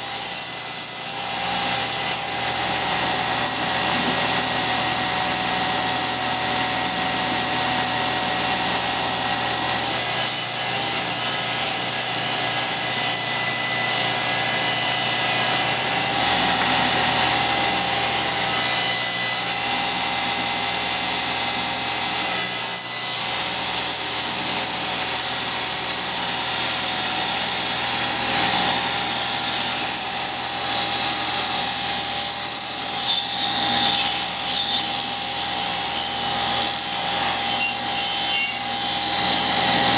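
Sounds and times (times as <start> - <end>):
table saw cutting wood: 0.0 - 39.9.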